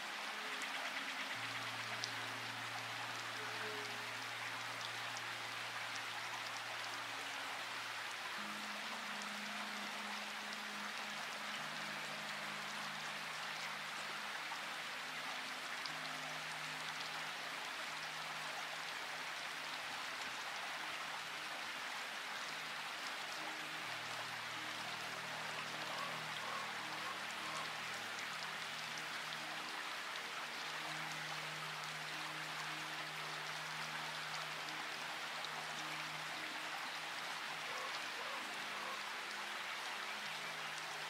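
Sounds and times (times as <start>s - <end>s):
soft held low music notes: 0.0s - 41.0s
steady rain falling: 0.0s - 41.0s.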